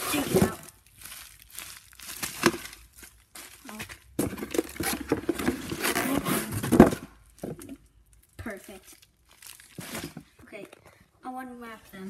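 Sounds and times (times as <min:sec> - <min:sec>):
bubble wrap and cardboard rustling: 0:00.0 - 0:10.7.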